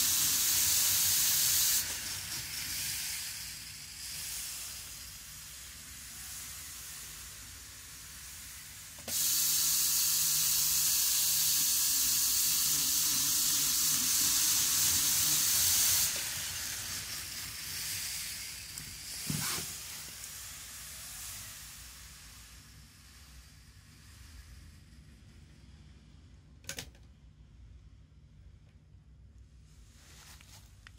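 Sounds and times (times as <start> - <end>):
model train whirring on track: 0.0 - 25.9.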